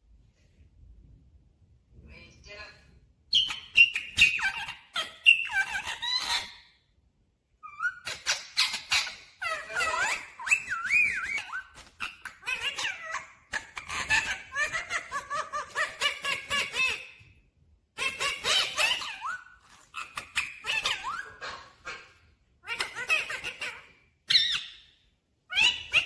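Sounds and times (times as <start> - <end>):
parakeet squawks and whistles: 3.3 - 6.7, 7.6 - 17.2, 18.0 - 26.0.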